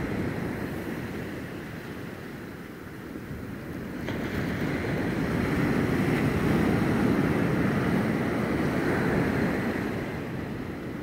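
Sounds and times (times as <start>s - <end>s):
waves washing against pilings: 0.0s - 11.0s.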